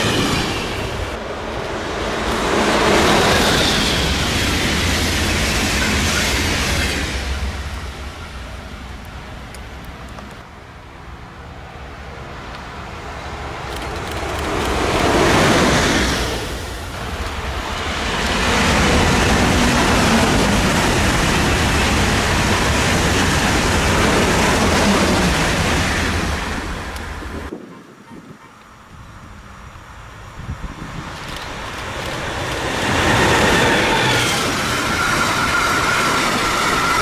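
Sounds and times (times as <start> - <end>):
high-speed train passing: 0.0 - 37.0.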